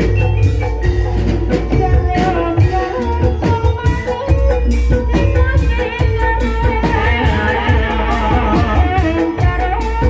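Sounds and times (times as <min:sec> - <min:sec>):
pitched gamelan instruments: 0:00.0 - 0:10.0
person singing: 0:01.5 - 0:10.0.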